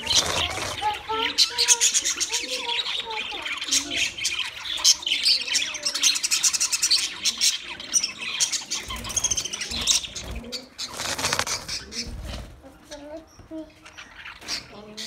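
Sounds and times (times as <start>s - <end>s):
budgerigars chattering: 0.0s - 12.4s, 13.7s - 15.0s.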